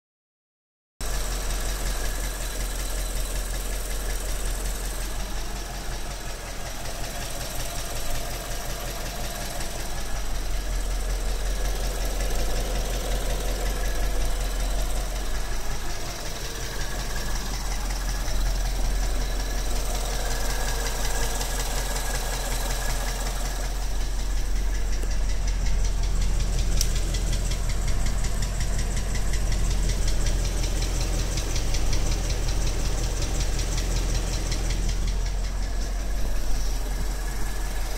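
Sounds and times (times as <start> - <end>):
car engine idling: 1.0 - 37.9
rapid ticking engine knock: 1.0 - 37.9.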